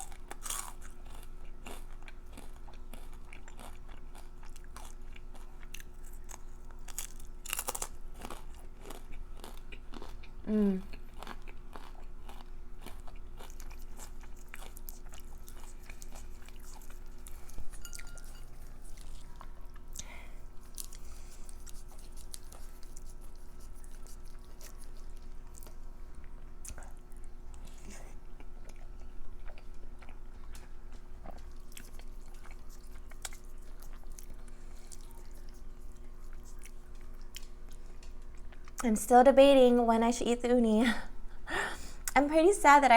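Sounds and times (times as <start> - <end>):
crunchy chewing: 0.0 - 38.8
faint steady hum: 0.0 - 42.9.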